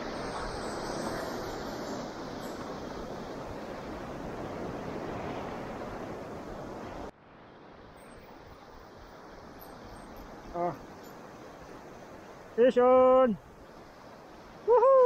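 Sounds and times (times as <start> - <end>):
sea at water's edge: 0.0 - 15.0
wind: 0.0 - 15.0.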